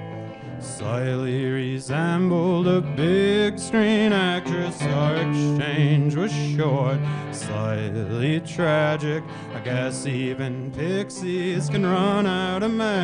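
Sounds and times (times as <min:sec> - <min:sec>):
strummed acoustic guitar: 0:00.0 - 0:13.0
man singing: 0:00.6 - 0:13.0.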